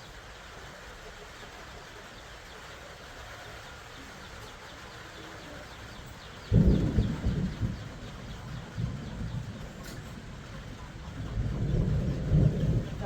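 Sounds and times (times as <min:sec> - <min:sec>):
small birds chirping: 0:01.0 - 0:13.0.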